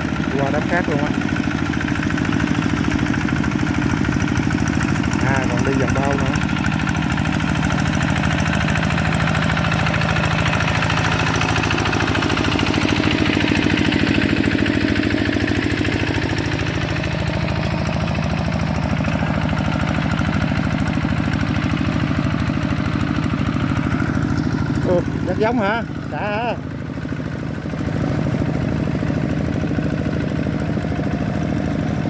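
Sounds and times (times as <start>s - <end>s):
diesel tractor engine running: 0.0s - 32.0s.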